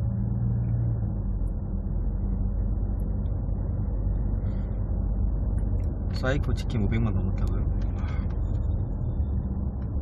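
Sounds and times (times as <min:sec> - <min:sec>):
low hum: 0:00.0 - 0:10.0
road and engine rumble in car: 0:00.0 - 0:10.0.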